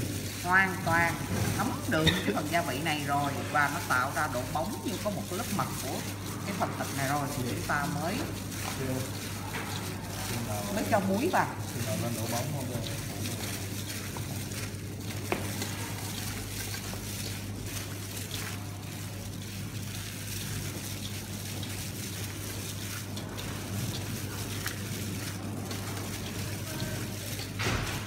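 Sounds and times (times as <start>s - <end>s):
wet squelching of kneaded meat: 0.0s - 28.0s.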